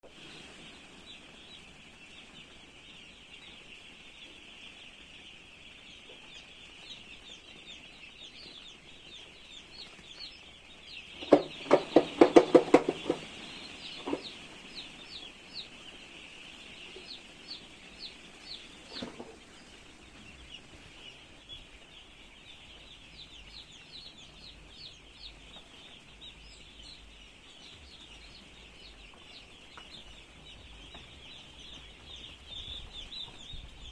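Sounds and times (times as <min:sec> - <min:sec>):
chicks peeping: 0:00.0 - 0:33.9
chicken clucking: 0:00.1 - 0:33.9.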